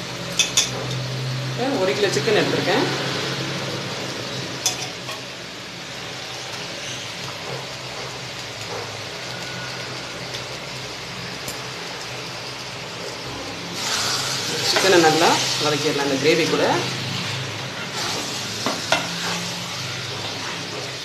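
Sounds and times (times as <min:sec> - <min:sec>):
gravy sizzling in a pot: 0:00.0 - 0:21.0.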